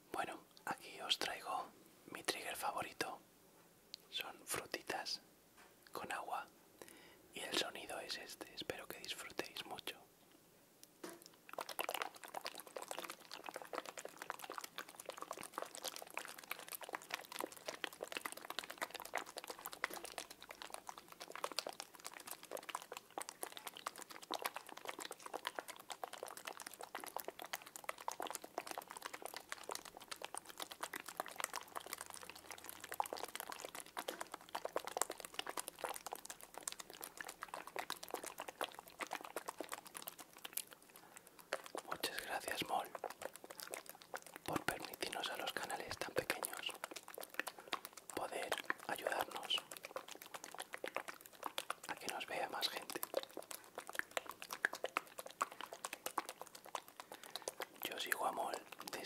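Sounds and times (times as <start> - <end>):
squishy balls squelching: 11.0 - 59.0.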